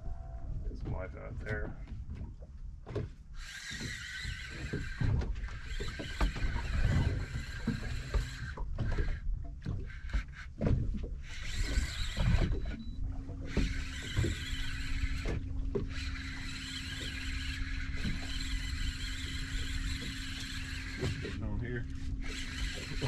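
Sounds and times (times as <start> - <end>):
wind and sea rumble: 0.0 - 23.0
fishing reel gears whirring: 3.3 - 23.0.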